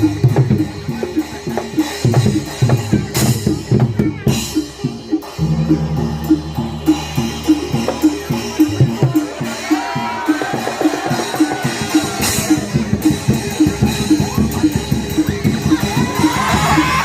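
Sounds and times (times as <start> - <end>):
hand drums struck quickly: 0.0 - 17.0.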